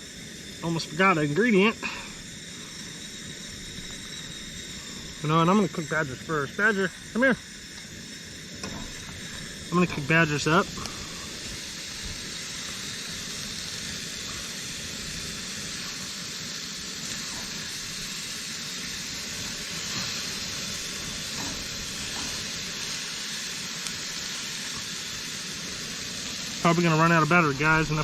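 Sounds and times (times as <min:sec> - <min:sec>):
burger patty sizzling: 0:00.0 - 0:28.0.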